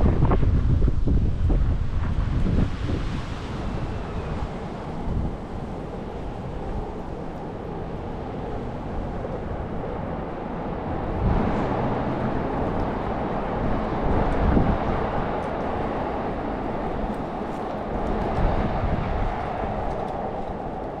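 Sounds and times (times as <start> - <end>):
city street noise: 0.0 - 21.0
wind buffeting microphone: 0.0 - 21.0.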